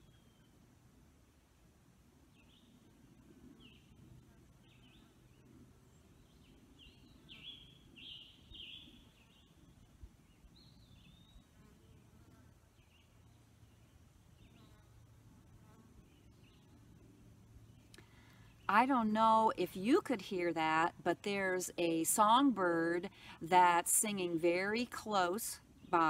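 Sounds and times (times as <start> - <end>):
songbird singing: 0.0 - 0.6, 2.3 - 15.2, 16.0 - 26.0
quiet woodland background: 0.0 - 26.0.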